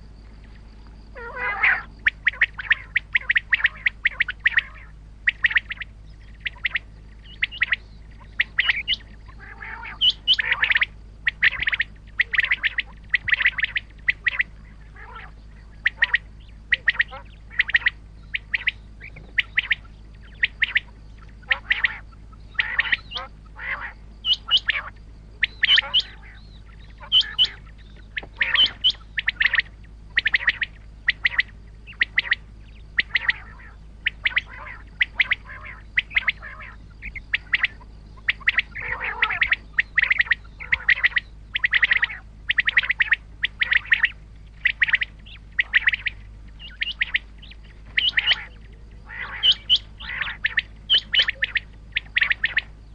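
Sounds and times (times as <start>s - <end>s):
quail calling: 0.0s - 52.9s
steady low hum: 0.0s - 52.9s.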